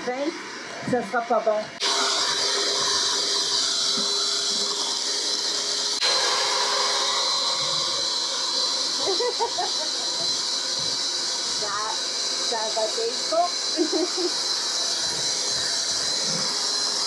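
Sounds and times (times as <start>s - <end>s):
electric hand mixer whining: 0.0s - 17.0s.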